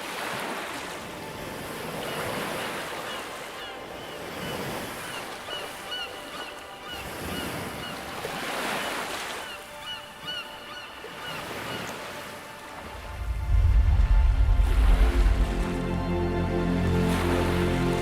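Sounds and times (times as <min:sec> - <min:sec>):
sea water washing and surging: 0:00.0 - 0:18.0.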